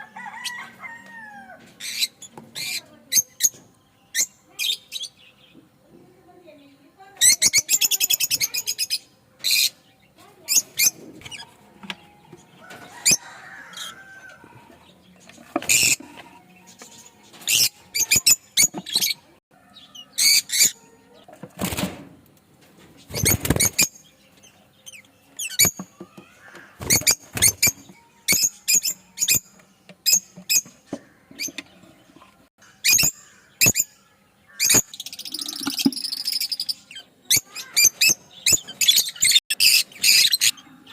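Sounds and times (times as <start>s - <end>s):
lovebirds chirping: 0.1s - 21.4s, 22.8s - 40.9s.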